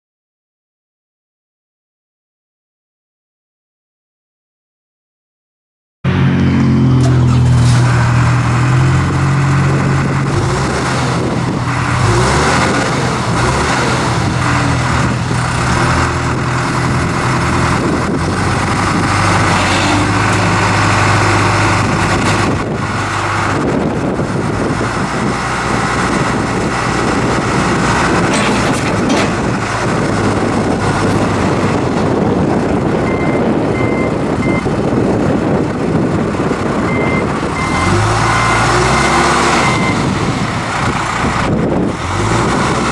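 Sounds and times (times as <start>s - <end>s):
diesel engine running: 6.1s - 42.9s.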